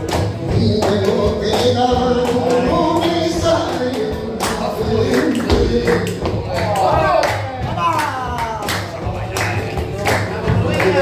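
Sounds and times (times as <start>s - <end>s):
rumba flamenco band: 0.0s - 11.0s
sharp percussive hits: 0.0s - 11.0s.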